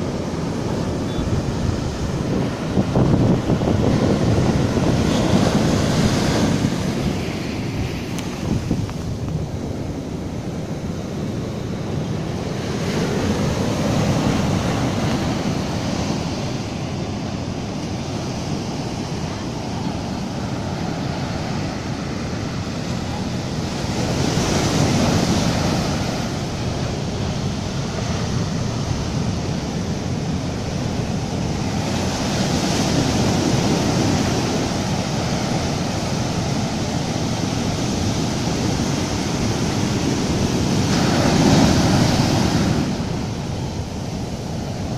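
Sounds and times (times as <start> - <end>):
waves breaking on sand: 0.0 - 44.9.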